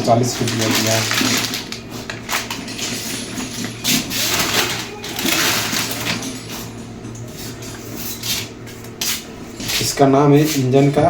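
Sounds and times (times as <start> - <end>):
metal parts rustling and clattering: 0.0 - 9.0.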